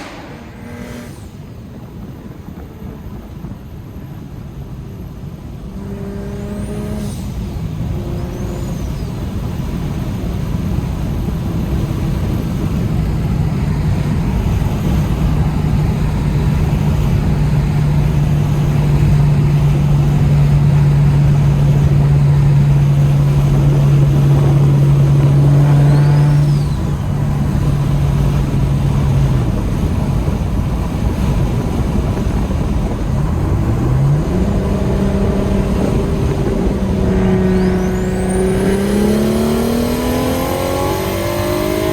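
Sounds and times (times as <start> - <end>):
car engine heard from cabin: 0.0 - 41.9.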